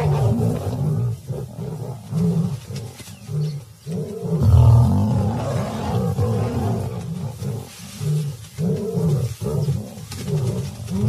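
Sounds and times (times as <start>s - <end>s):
lions snarling and growling: 0.0s - 11.0s.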